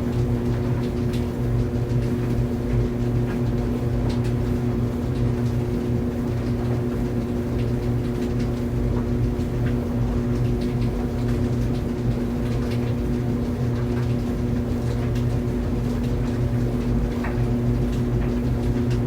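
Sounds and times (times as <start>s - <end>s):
clothes dryer humming: 0.0s - 19.0s.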